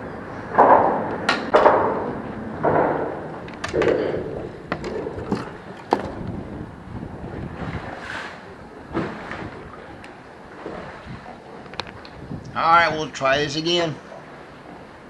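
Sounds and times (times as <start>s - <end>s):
waves slapping against a hull: 0.5s - 15.0s.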